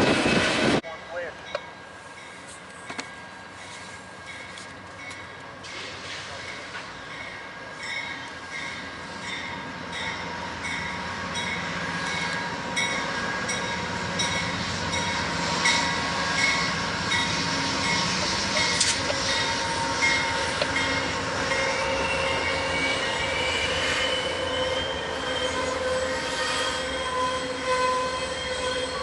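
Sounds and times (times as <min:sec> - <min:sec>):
train rumble: 0:00.0 - 0:29.0
train wheels squealing on rail: 0:01.6 - 0:29.0.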